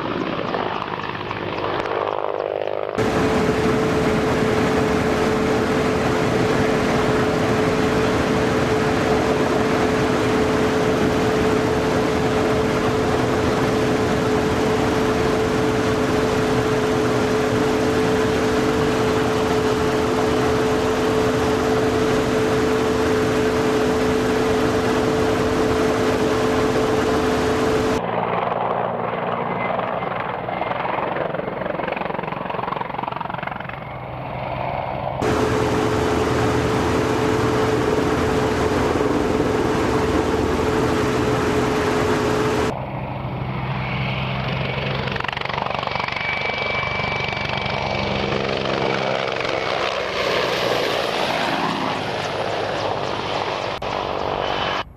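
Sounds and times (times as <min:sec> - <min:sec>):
distant helicopter: 0:00.0 - 0:54.9
helicopter turbine and rotor noise: 0:00.0 - 0:54.9
steady turbine whine: 0:00.0 - 0:54.9.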